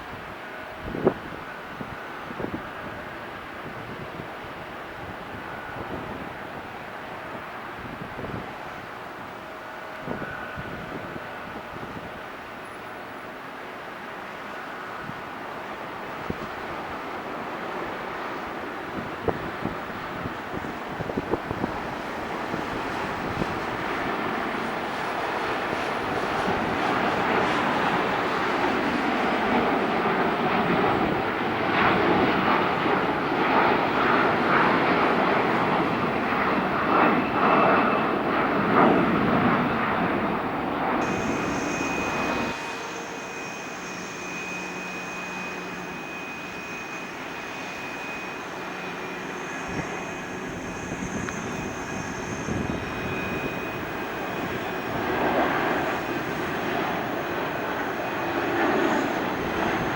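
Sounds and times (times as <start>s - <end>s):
jet engine whine with high tone: 0.0s - 59.9s
jet engines roaring: 0.0s - 59.9s.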